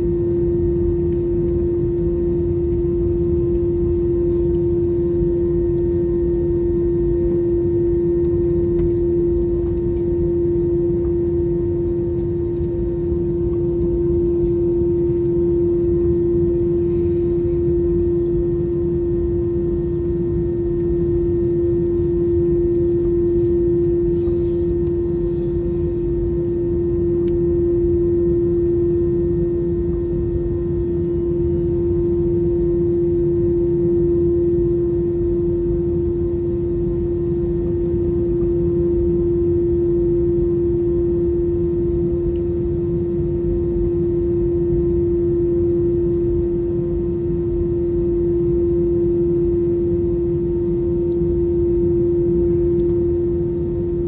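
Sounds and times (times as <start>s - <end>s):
jet engines idling in cabin: 0.0s - 54.0s.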